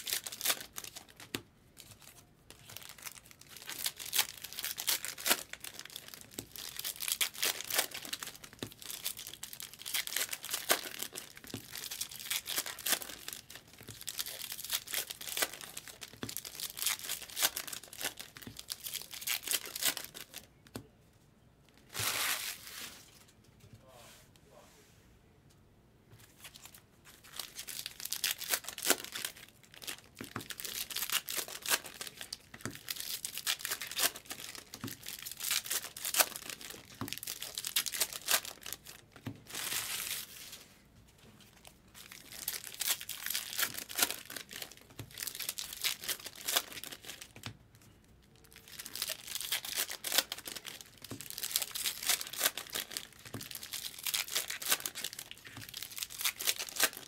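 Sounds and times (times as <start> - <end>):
wrappers tearing and crinkling: 0.0 - 20.5, 26.5 - 40.6, 41.4 - 47.5, 48.3 - 57.0.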